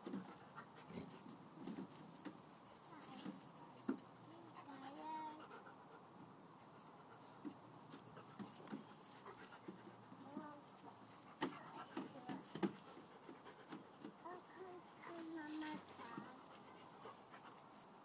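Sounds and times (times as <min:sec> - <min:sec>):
dogs panting: 0:00.0 - 0:18.0.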